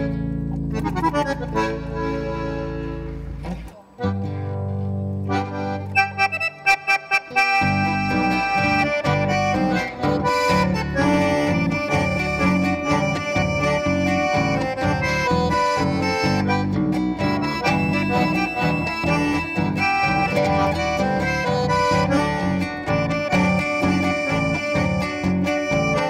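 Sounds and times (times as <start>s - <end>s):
acoustic guitar rhythm: 0.0s - 26.0s
bass guitar: 0.0s - 26.0s
piano accordion melody: 0.0s - 26.0s.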